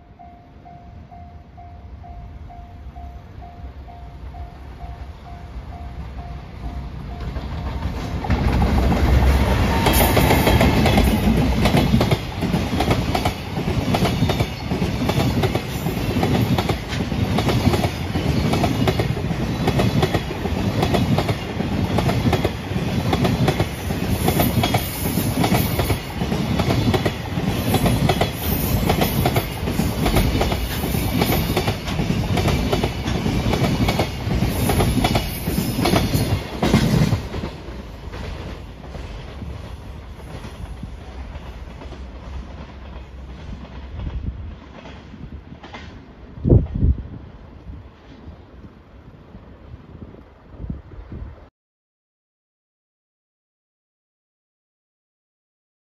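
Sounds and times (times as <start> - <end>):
electric locomotive passing: 0.0 - 51.4.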